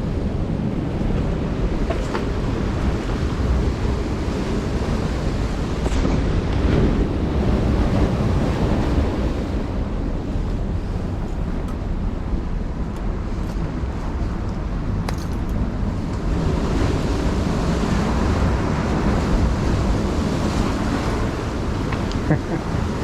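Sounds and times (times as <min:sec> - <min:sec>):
surf waves: 0:00.0 - 0:23.0
wind buffeting microphone: 0:00.0 - 0:23.0.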